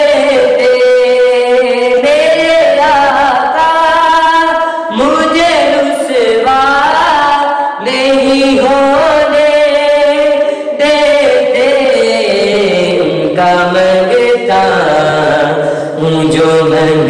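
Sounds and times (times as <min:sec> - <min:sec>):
man singing devotional chant: 0:00.0 - 0:17.0.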